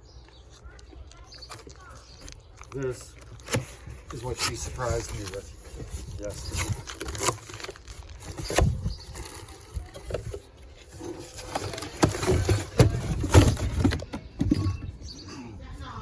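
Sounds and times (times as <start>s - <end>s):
packaging rustling: 0.6s - 14.1s
knocks and thumps of handling: 1.3s - 15.0s.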